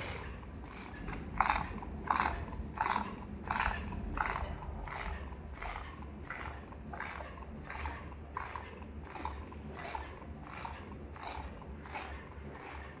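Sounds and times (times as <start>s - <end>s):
die-cutting machine strokes: 0.0s - 13.0s
low motor hum: 0.0s - 13.0s.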